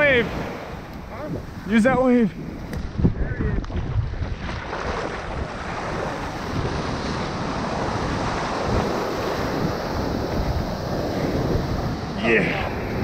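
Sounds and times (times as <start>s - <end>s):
ocean surf breaking: 0.0s - 3.0s, 3.8s - 13.0s
wind buffeting microphone: 0.0s - 13.0s.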